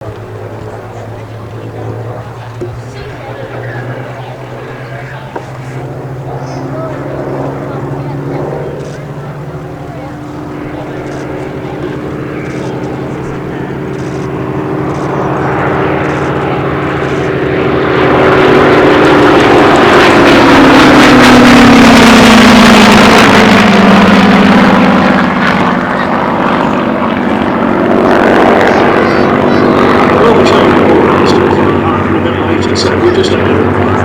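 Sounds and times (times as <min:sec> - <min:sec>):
propeller plane flying past: 0:00.0 - 0:34.0.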